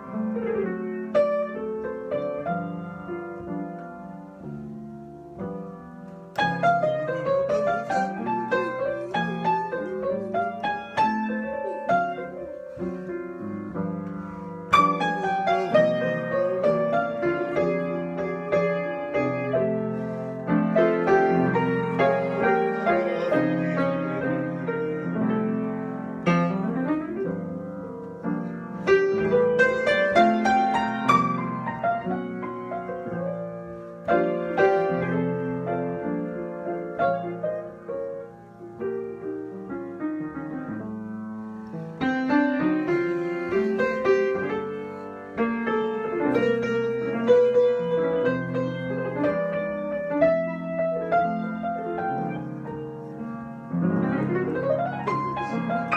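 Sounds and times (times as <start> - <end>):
solo piano improvisation: 0.0 - 55.9.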